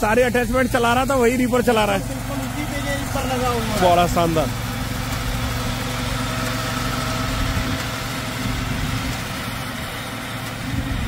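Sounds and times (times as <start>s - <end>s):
power weeder engine running: 0.0s - 11.0s.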